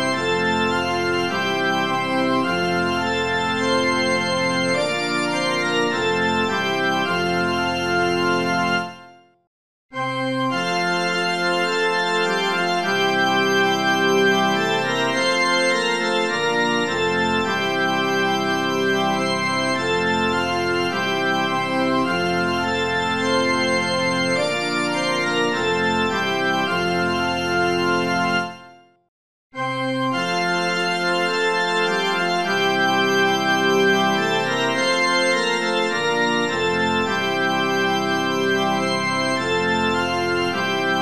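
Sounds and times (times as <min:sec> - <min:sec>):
organ music: 0:00.0 - 0:09.1, 0:10.0 - 0:28.7, 0:29.6 - 0:41.0.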